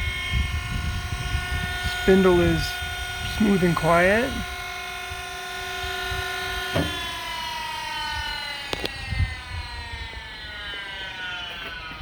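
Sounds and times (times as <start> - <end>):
grinder motor winding down: 0.0 - 12.0.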